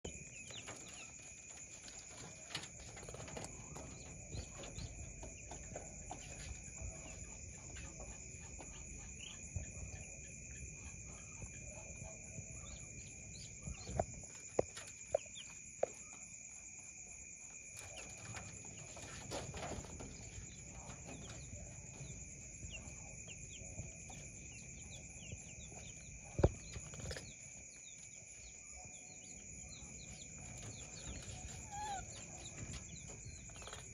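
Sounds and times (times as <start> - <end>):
faint chirping: 0.0 - 33.9.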